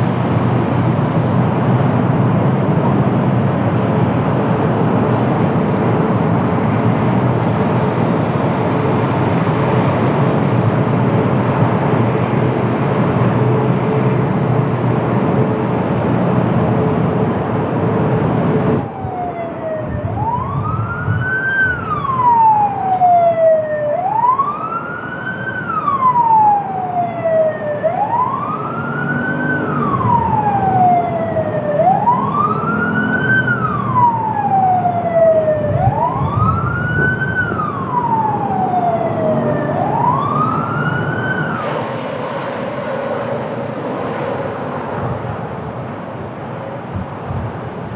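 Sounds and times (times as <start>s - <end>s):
steady rushing noise: 0.0s - 18.9s, 25.6s - 47.9s
emergency siren wailing: 0.0s - 42.2s.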